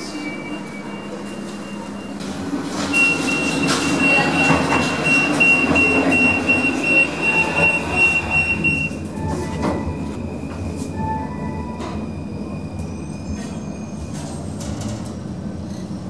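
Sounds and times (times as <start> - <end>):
high-pitched train squeal: 0.0 - 14.6
train running: 0.0 - 16.0.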